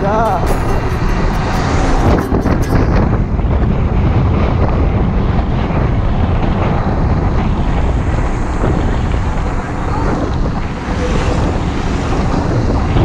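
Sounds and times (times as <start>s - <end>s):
tyre and road noise: 0.0s - 13.0s
wind buffeting microphone: 0.0s - 13.0s.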